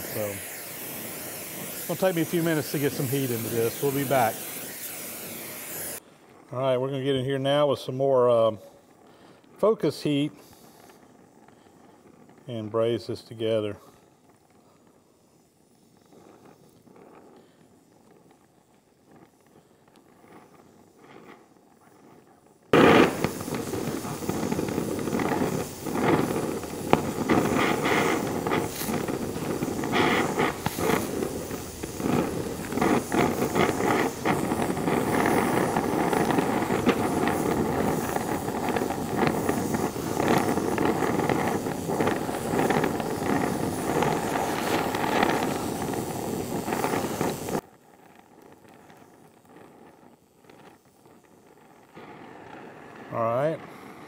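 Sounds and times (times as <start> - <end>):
torch flame rushing and crackling: 0.0 - 54.0.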